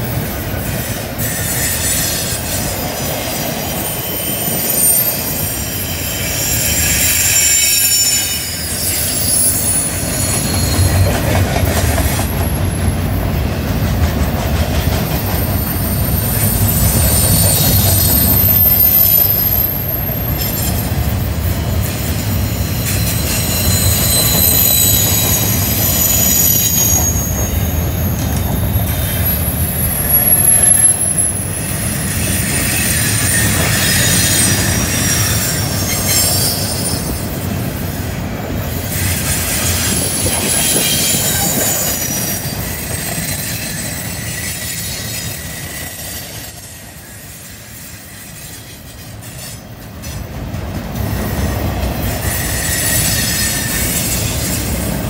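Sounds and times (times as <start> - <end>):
train wheels squealing: 0.0 - 50.3, 50.9 - 55.0
train rumble: 0.0 - 55.0.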